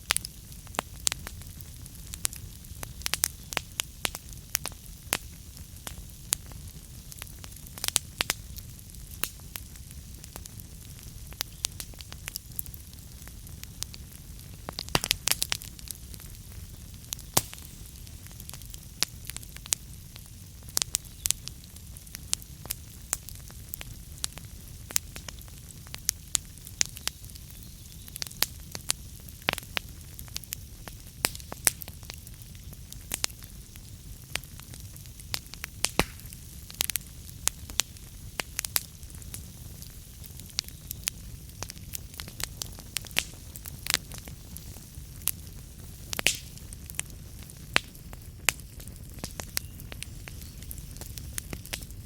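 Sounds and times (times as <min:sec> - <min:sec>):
fire low rumble: 0:00.0 - 0:52.0
logs crackling and popping: 0:00.0 - 0:52.0.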